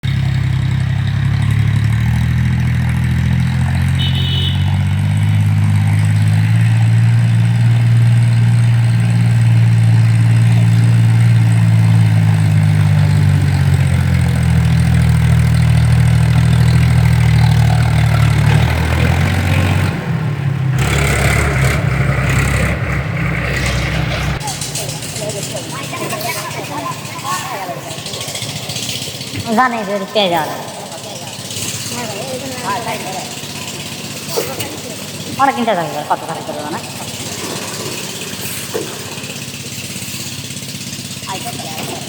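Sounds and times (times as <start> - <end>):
tractor diesel engine droning: 0.0 - 42.0.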